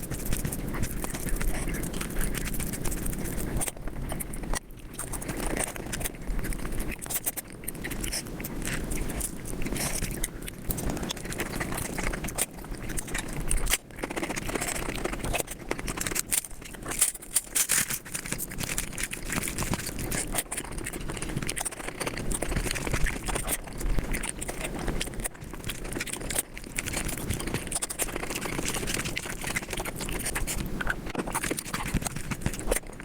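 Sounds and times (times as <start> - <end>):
sped-up chewing and smacking: 0.0 - 33.0.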